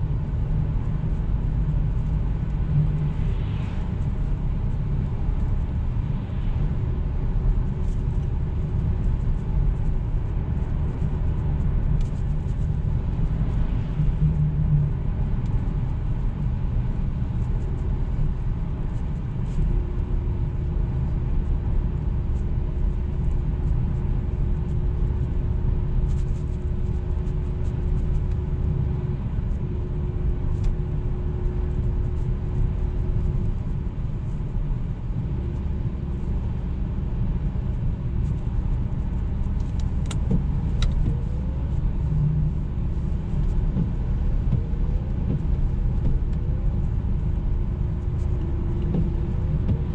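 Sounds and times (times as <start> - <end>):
engine and road rumble: 0.0 - 49.9.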